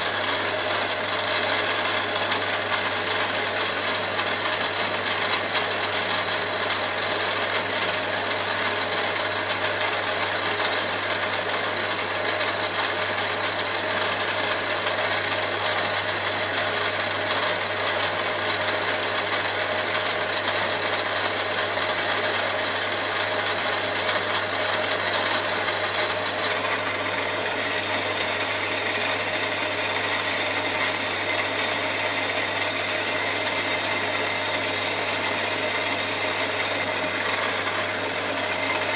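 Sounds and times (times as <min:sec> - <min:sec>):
milling machine humming and whining: 0:00.0 - 0:38.9.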